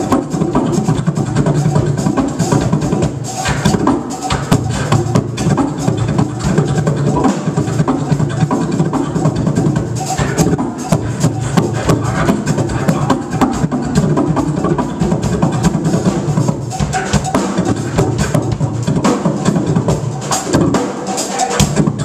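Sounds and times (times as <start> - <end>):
drum kit steady beat: 0.0 - 22.0
live band playing: 0.0 - 22.0.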